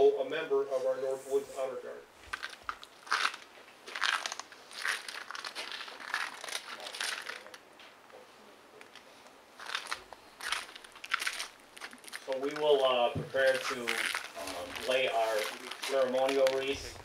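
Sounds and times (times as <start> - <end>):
crinkly rustling at microphone: 1.1 - 7.6, 8.9 - 17.0.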